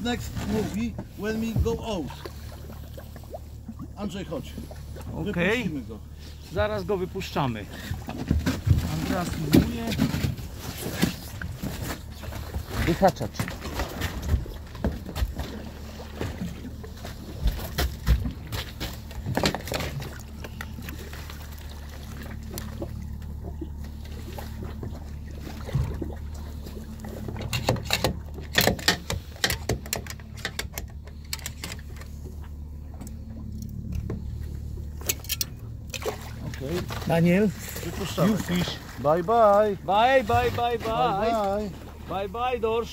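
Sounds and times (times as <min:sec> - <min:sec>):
water splashes: 0:00.0 - 0:31.3, 0:31.9 - 0:42.9
boat engine idling: 0:00.0 - 0:42.9.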